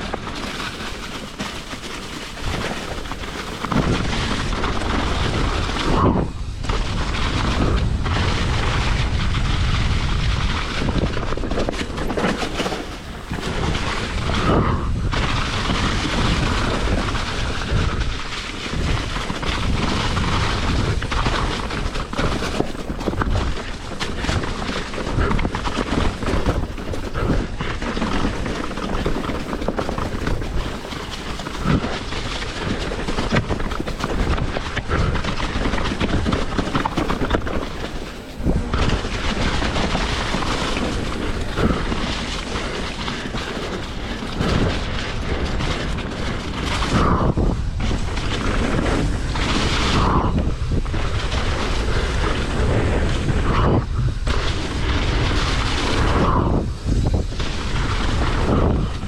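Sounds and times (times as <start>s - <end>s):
bike rattling and clattering: 0.0s - 59.0s
tyres rumbling over dirt and rock: 0.0s - 59.0s.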